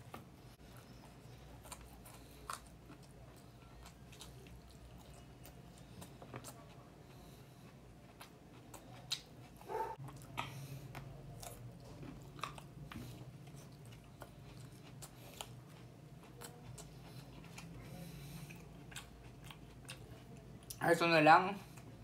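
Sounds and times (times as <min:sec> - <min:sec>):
man chewing food: 0:00.0 - 0:20.8, 0:21.6 - 0:22.0.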